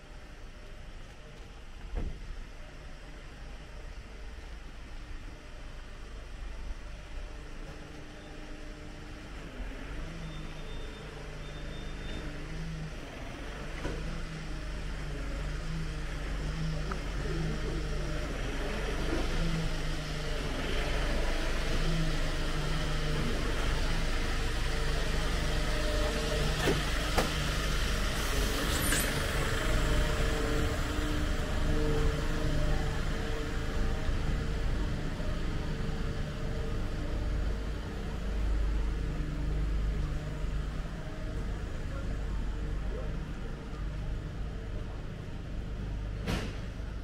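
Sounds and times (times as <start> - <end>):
road traffic: 0.0 - 47.0.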